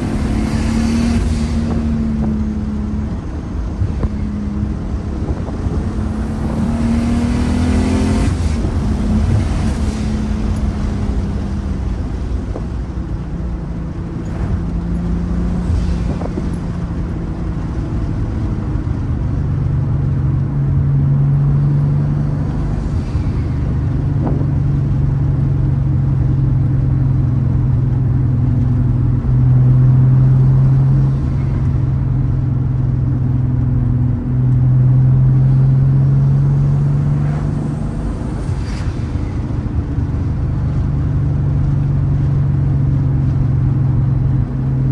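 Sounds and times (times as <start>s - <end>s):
car engine and exhaust droning: 0.0s - 44.9s.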